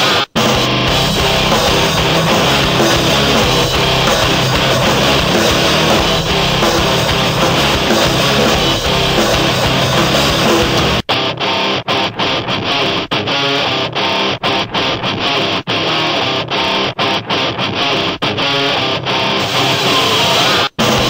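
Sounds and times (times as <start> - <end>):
rock music with guitar: 0.0 - 21.0.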